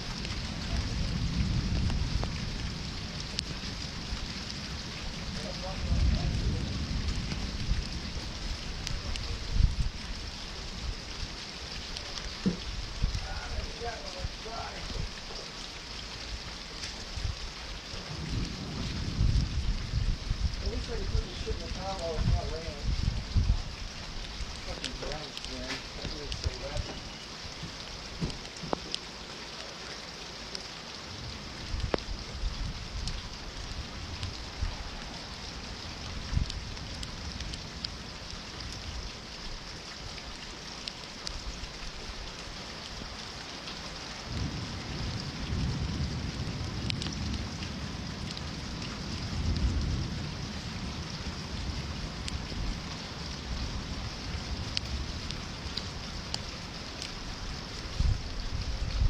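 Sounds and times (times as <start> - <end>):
sharp raindrop hits: 0.0 - 59.0
steady rain falling: 0.0 - 59.0.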